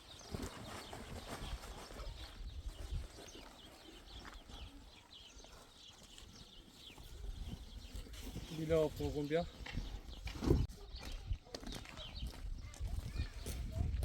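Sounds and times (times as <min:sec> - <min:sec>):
livestock hooves clopping: 0:00.0 - 0:14.0.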